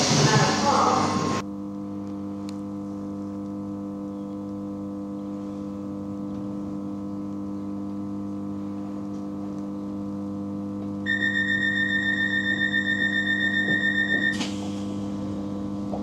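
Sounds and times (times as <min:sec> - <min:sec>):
train electrical hum: 0:00.0 - 0:16.0.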